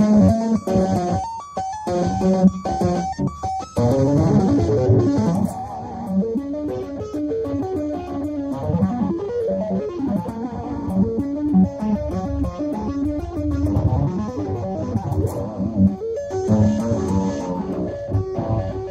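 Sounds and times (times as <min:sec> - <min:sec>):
shred electric guitar: 0:00.0 - 0:18.9.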